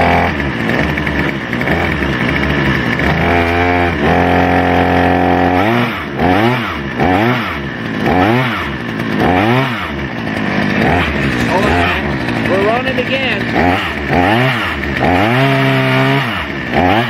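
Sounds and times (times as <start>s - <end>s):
chainsaw engine revving: 0.0s - 17.0s.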